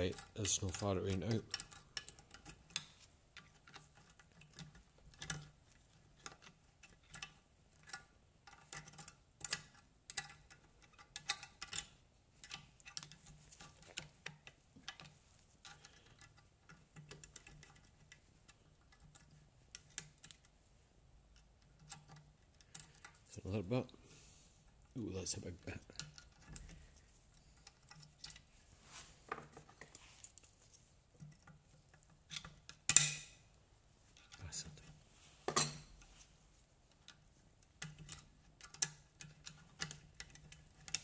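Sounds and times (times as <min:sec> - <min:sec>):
hand tool tapping and scraping metal: 0:00.0 - 0:20.6, 0:21.3 - 0:23.7, 0:24.6 - 0:28.5, 0:29.2 - 0:33.5, 0:34.2 - 0:36.2, 0:36.9 - 0:41.0.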